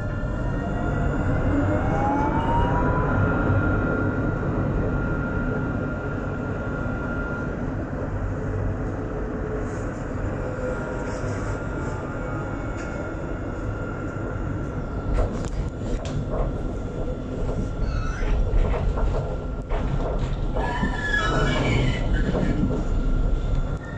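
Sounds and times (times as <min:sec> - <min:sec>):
tram motor whine: 0:00.0 - 0:23.9
tram wheels rumbling on rail: 0:00.0 - 0:23.9.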